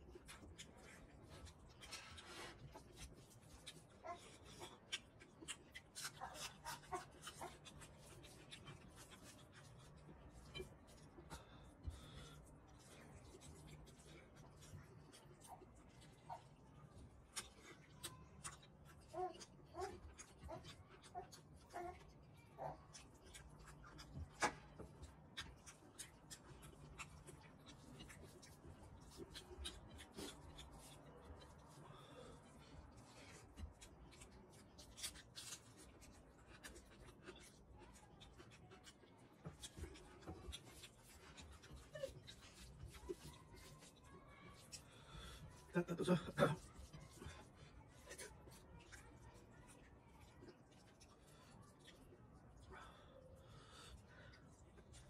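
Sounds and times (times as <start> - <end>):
fingers squishing rice: 0.0 - 55.0
wet chewing and lip smacking: 0.0 - 55.0.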